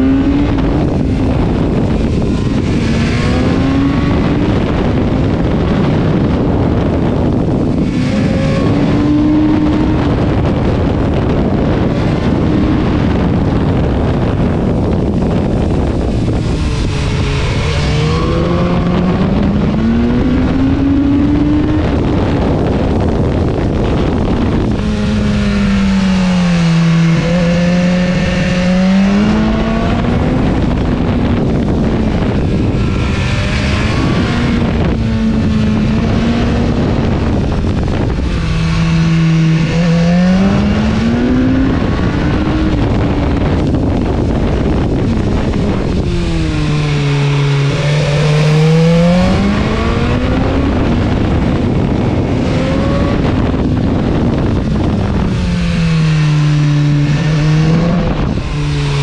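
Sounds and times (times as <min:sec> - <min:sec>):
motorcycle engine revving: 0:00.0 - 0:59.0
wind rushing on microphone: 0:00.0 - 0:59.0.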